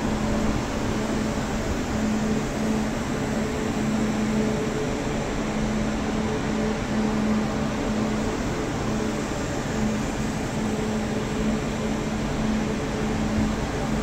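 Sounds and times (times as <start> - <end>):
train moving slowly humming: 0.0 - 14.0.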